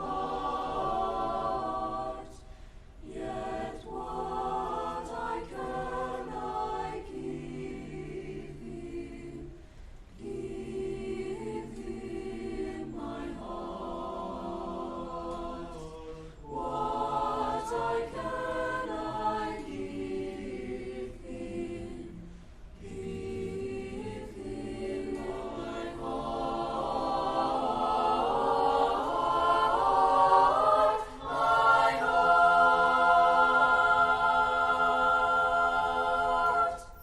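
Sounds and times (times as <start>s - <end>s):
choir singing sustained chords: 0.0s - 37.0s.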